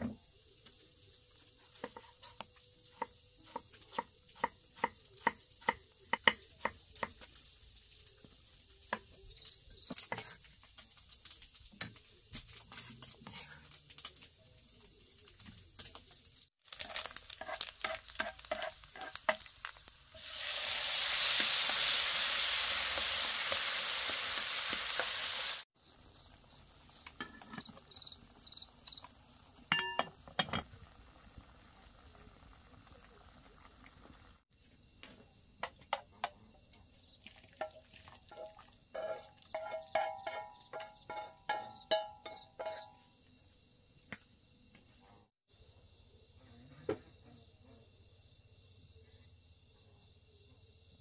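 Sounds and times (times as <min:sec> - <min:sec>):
food sizzling in hot oil: 0:00.0 - 0:34.8, 0:35.7 - 0:43.1.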